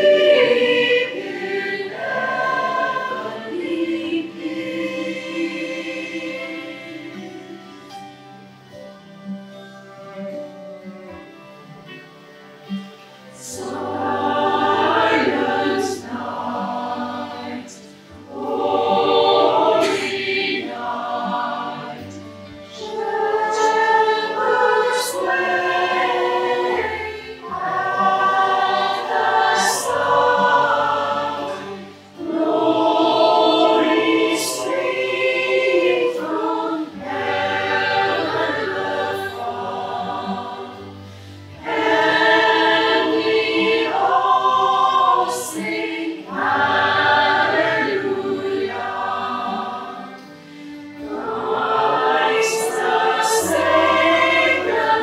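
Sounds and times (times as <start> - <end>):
choir singing: 0.0 - 8.8, 12.7 - 55.0.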